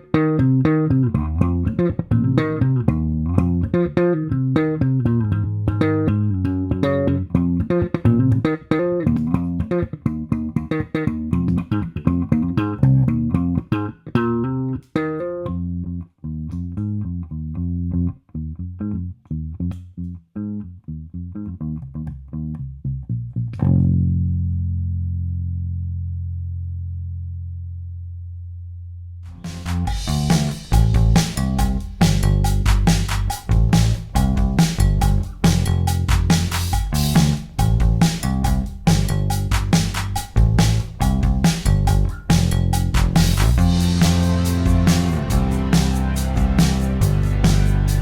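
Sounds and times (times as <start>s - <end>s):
electric bass plucked notes: 0.0s - 48.0s.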